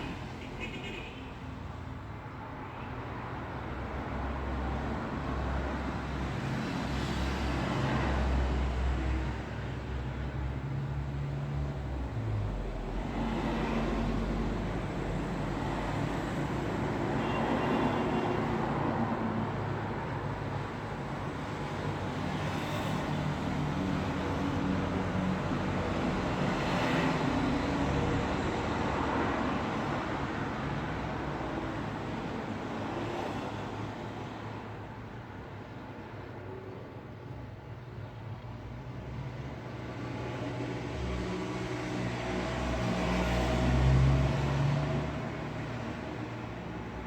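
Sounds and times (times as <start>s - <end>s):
cars passing by: 0.0s - 47.0s.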